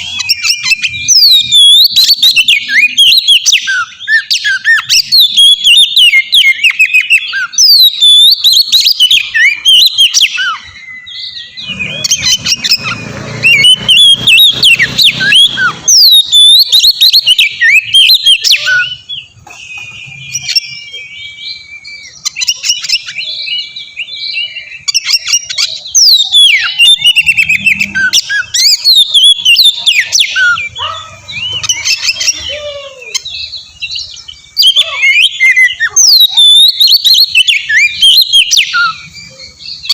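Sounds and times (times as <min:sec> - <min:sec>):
songbird whistles and chirps: 0:00.0 - 0:39.9.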